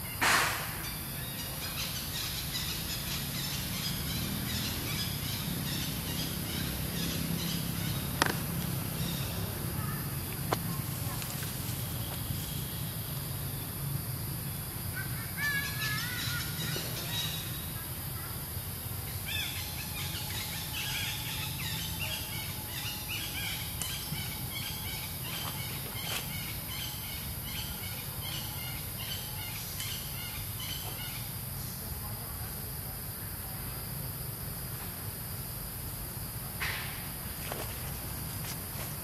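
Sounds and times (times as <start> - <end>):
birds calling: 0.0 - 31.7.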